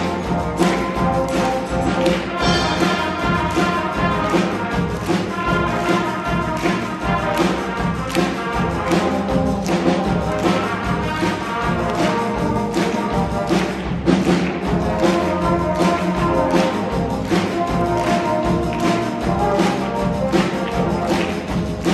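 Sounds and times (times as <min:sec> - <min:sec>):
brass instruments in harmony: 0:00.0 - 0:21.9
drum hits: 0:00.0 - 0:21.9.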